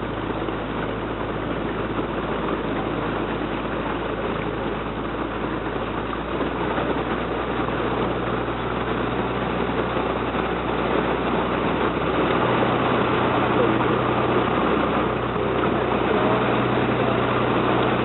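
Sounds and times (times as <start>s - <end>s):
boat engine low drone: 0.0s - 18.0s.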